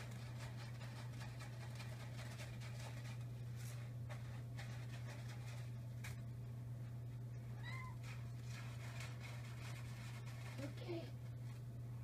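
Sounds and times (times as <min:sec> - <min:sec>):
kitten scratching in cat litter: 0:00.0 - 0:11.8
steady low hum: 0:00.0 - 0:12.0.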